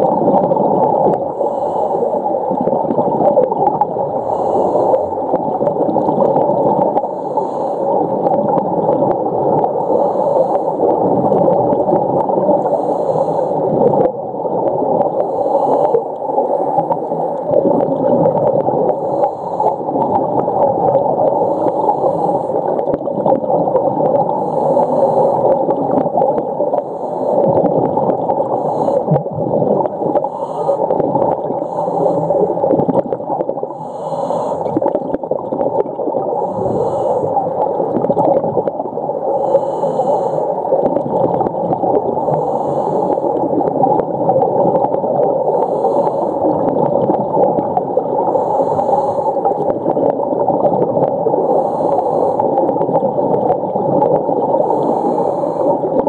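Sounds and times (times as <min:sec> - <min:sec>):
underwater rushing noise: 0:00.0 - 0:56.0.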